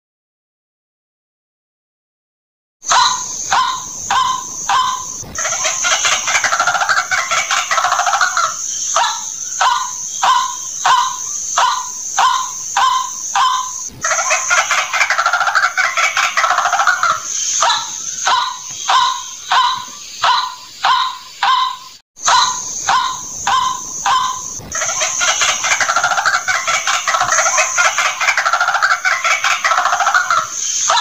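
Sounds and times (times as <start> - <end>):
steady high hiss: 2.8 - 31.0
bird chattering: 2.9 - 31.0
bird croaking notes: 2.9 - 31.0.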